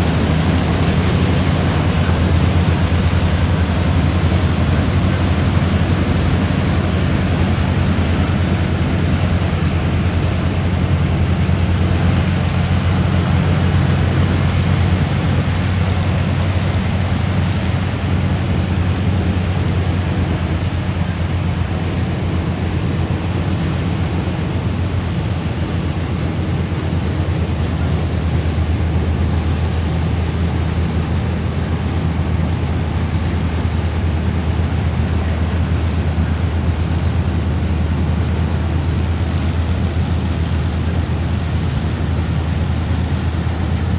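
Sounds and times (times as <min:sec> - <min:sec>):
broad rushing noise: 0:00.0 - 0:43.9
combine harvester engine drone: 0:00.0 - 0:43.9.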